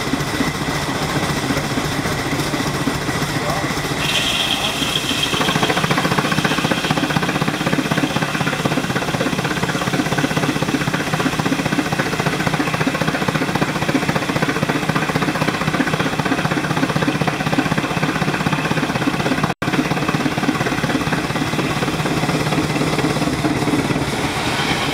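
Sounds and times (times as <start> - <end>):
engine pulsing: 0.0 - 24.9.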